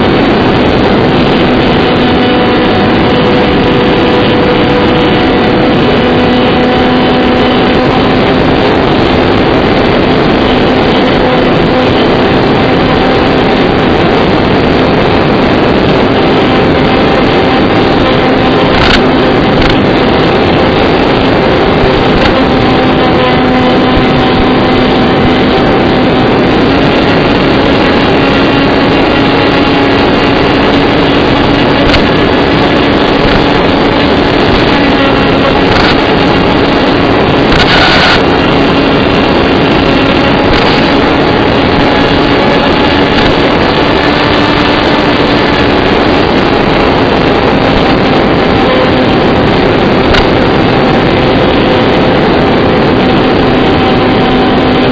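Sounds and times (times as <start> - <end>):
wind noise: 0.0 - 54.9.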